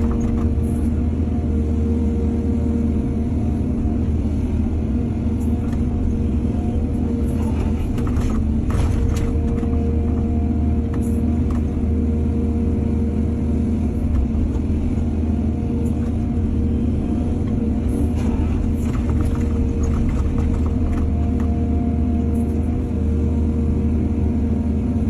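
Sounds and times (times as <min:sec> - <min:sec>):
diesel excavator engine running: 0:00.0 - 0:25.0.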